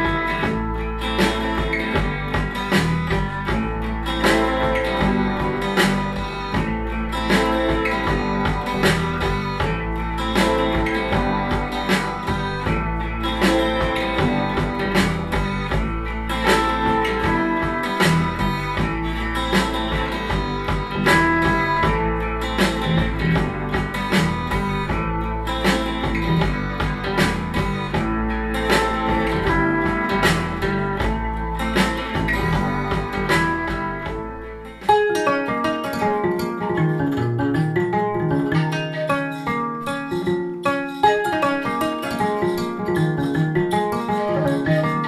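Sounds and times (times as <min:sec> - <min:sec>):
folk music with guitar over speakers: 0:00.0 - 0:45.0.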